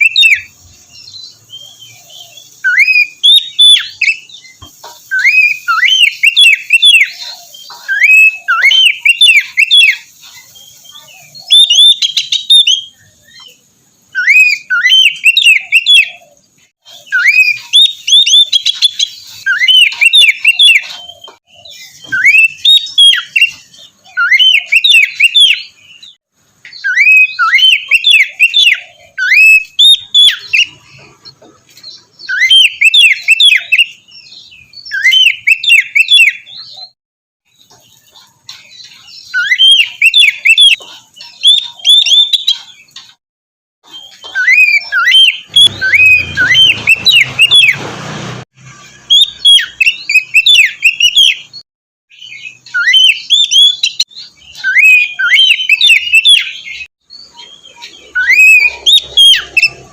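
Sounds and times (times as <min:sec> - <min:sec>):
bird singing whistled phrases: 0:00.0 - 0:31.1, 0:32.2 - 0:37.0, 0:39.2 - 0:42.8, 0:43.9 - 0:47.8, 0:49.0 - 0:59.9.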